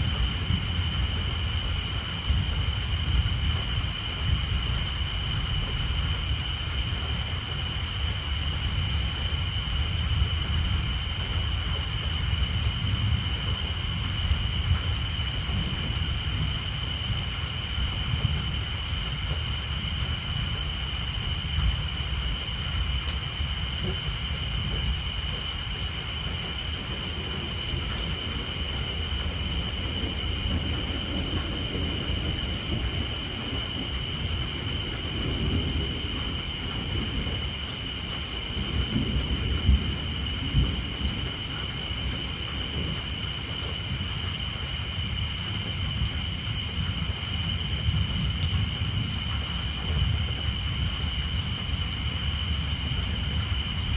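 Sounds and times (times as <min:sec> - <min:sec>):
rain on a tin roof: 0:00.0 - 0:53.9
rolling thunder: 0:00.0 - 0:53.9
tree frogs trilling: 0:00.1 - 0:53.9.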